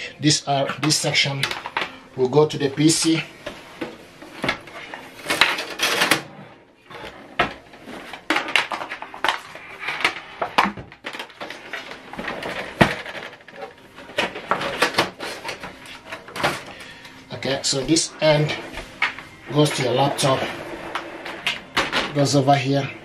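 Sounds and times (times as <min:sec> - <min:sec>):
cable rustling: 0:00.4 - 0:23.0.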